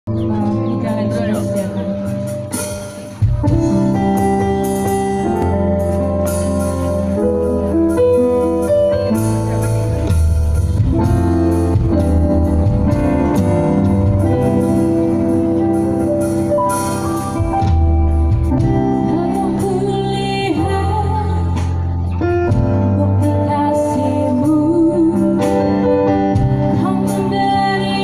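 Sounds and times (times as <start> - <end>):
worship band playing: 0.1 - 28.0.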